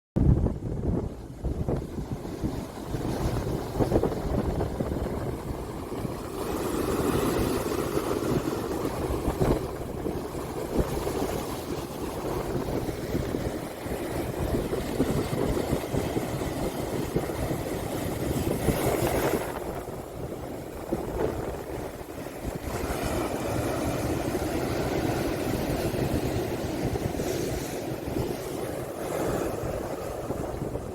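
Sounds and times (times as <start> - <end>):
wind buffeting microphone: 0.2 - 30.9
sea waves: 0.4 - 30.9.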